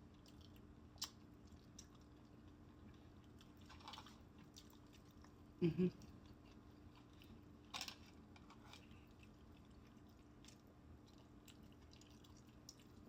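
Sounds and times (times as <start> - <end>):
chewing food close up: 0.0 - 13.0.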